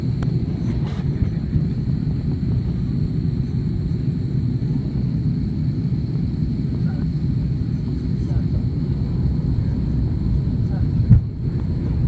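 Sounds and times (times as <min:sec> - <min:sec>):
airliner engines rumbling: 0:00.0 - 0:12.0
faint high whine: 0:00.0 - 0:12.0.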